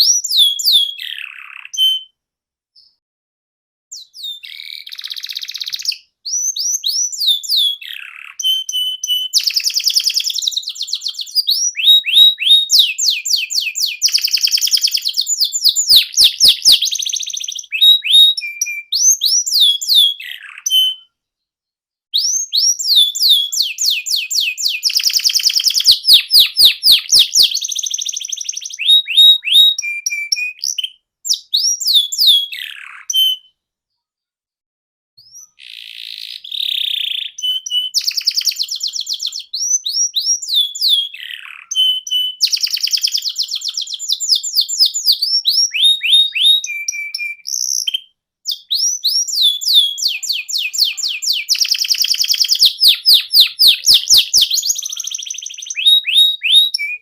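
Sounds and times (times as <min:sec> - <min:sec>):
canary singing trills: 0:00.0 - 0:02.2, 0:03.9 - 0:21.2, 0:22.1 - 0:33.6, 0:35.2 - 0:57.0.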